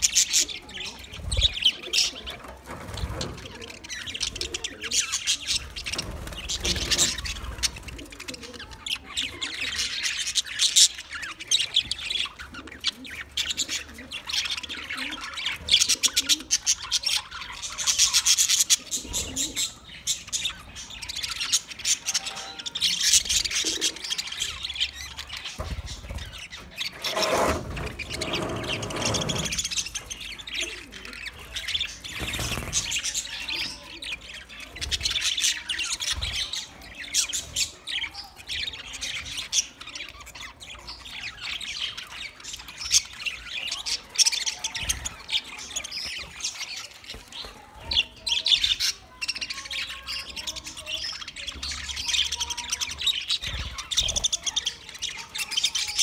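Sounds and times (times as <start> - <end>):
budgerigars chirping and warbling: 0.0 - 56.0.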